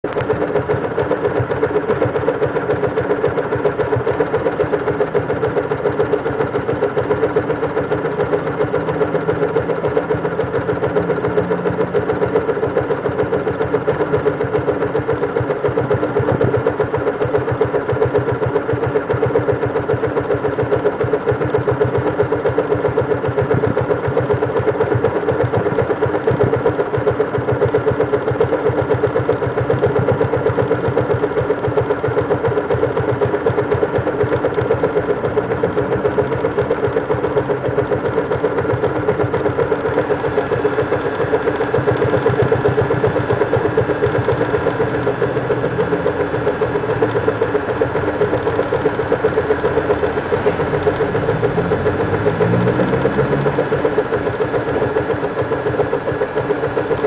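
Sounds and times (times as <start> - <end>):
motorcycle engine idling: 0.1 - 57.0.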